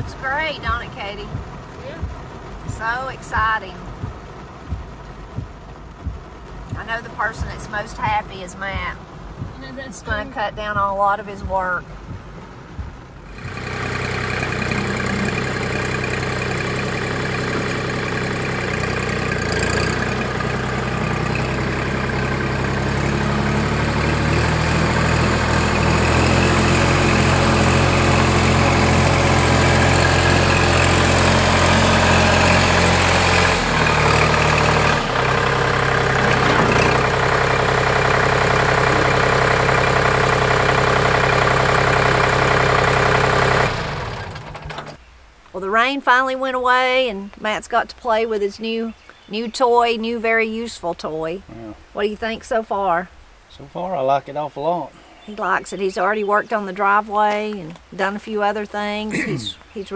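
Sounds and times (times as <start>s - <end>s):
tractor diesel engine running: 0.0s - 51.4s, 55.2s - 59.9s.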